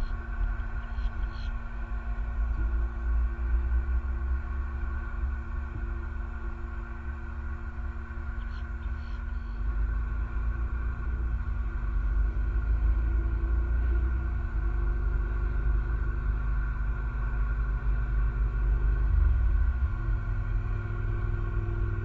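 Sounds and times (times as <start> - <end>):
constant hum: 0.0 - 22.0
low outdoor rumble: 0.0 - 22.0.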